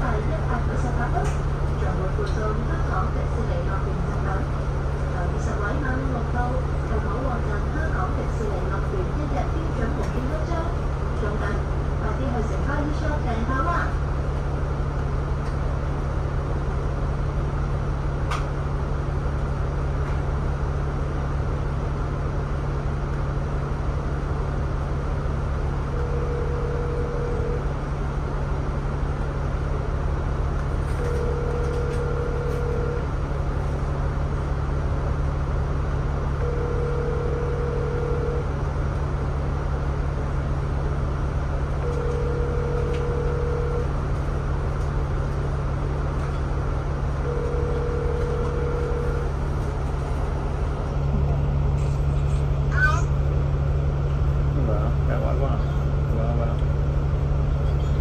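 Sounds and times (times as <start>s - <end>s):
bus engine idling: 0.0s - 58.0s.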